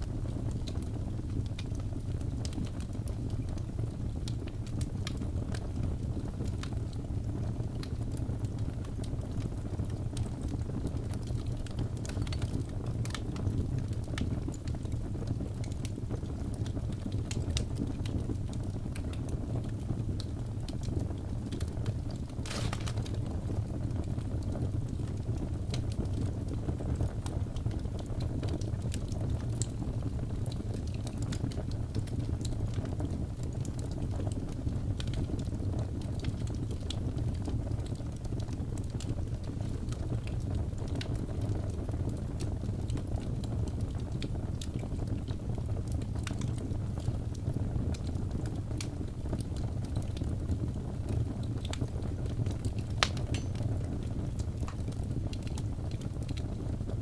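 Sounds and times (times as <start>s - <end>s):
flames rumbling: 0.0s - 57.0s
wood fire crackling: 0.0s - 57.0s.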